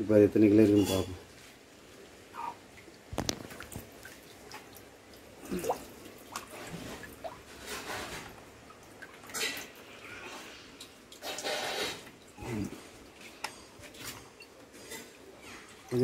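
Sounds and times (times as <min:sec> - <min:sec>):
water dripping and splashing: 0:01.2 - 0:16.0.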